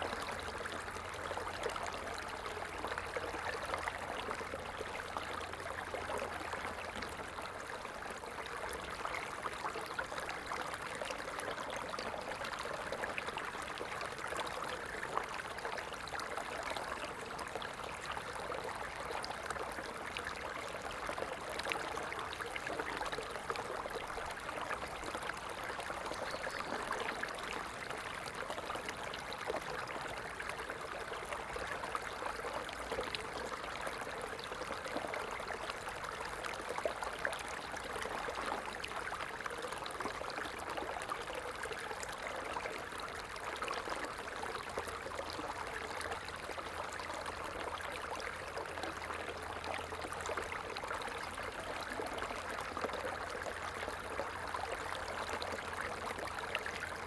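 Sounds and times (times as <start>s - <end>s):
stream babbling and trickling: 0.0s - 57.0s.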